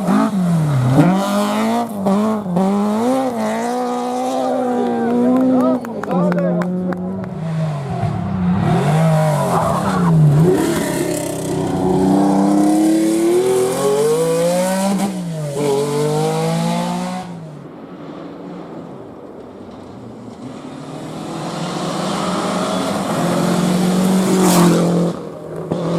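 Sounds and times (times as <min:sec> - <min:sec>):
rally car engine revving: 0:00.0 - 0:17.5, 0:20.3 - 0:25.9.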